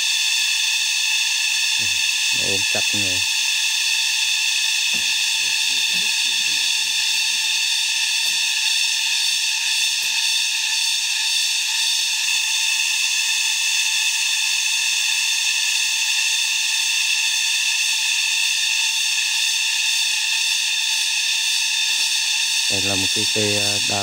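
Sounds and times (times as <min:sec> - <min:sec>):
cicada chorus drone: 0:00.0 - 0:24.0.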